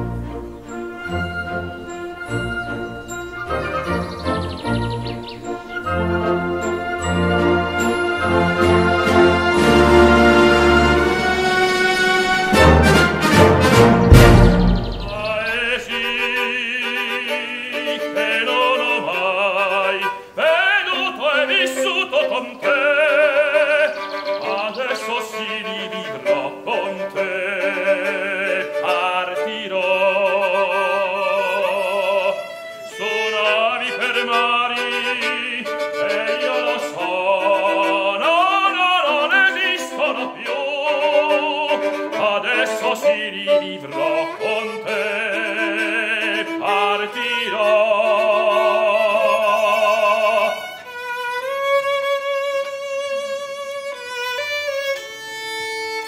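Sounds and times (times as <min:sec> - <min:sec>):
man singing opera: 0:00.7 - 0:55.1.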